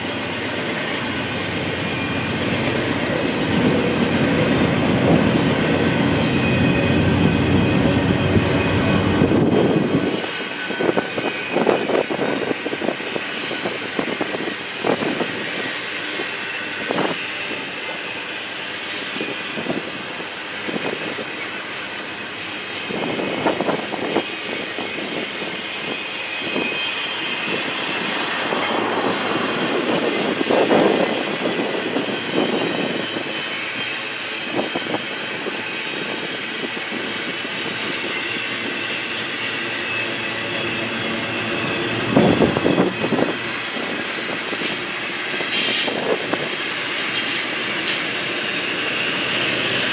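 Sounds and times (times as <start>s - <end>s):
freight train rumbling past: 0.0s - 49.9s
high wheel squeal: 5.8s - 46.2s.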